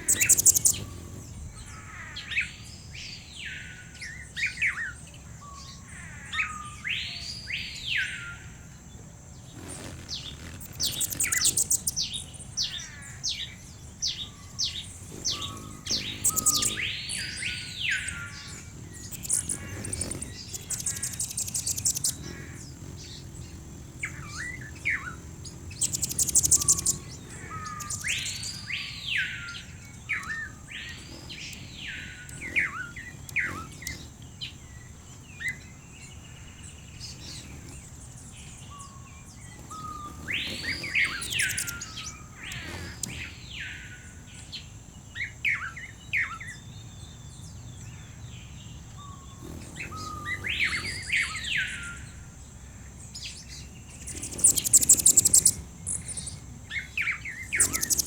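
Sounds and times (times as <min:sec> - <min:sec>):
buzzy bird trill: 0:00.0 - 0:05.0, 0:09.3 - 0:44.6, 0:48.0 - 0:58.0
bird chirps: 0:00.0 - 0:58.0.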